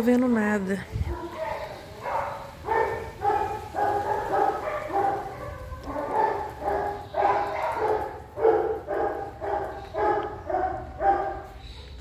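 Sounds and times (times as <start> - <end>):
dog barking: 1.1 - 12.0.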